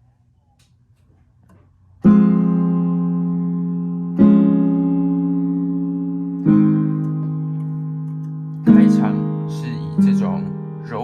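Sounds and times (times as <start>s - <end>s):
piano chords: 1.9s - 11.0s.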